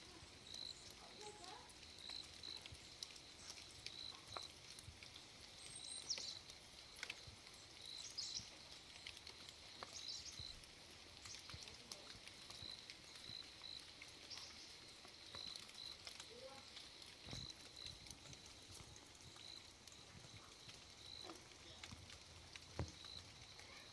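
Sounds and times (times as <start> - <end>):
rain dripping: 0.0 - 23.9.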